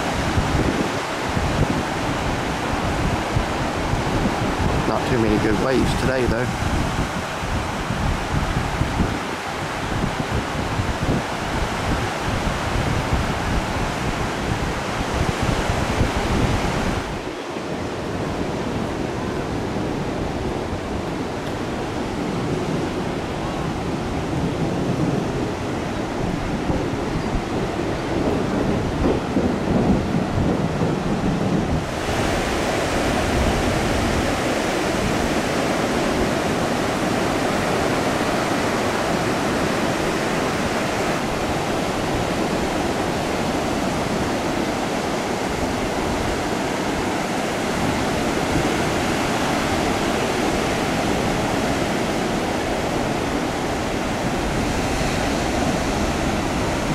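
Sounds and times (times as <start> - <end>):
ocean waves breaking on beach: 0.0 - 56.9.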